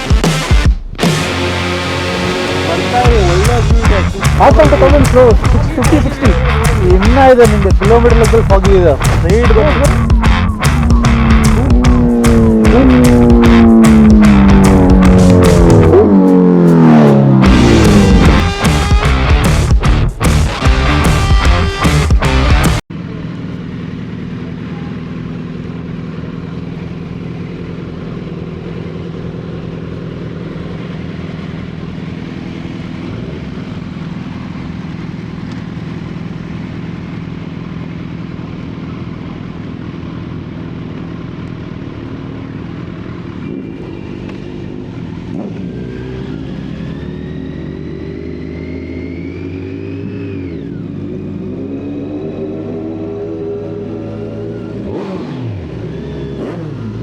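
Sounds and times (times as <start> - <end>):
motorcycle engine running: 0.0 - 57.0
road noise: 0.9 - 57.0.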